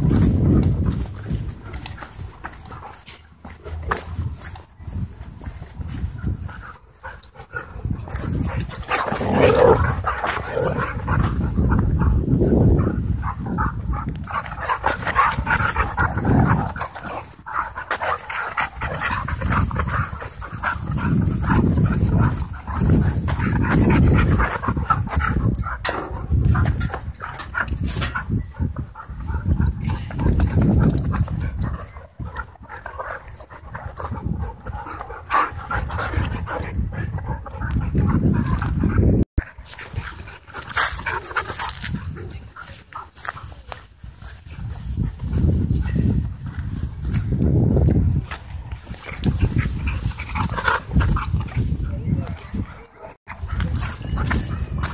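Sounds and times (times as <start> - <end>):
dogs growling and panting: 5.7 - 54.9.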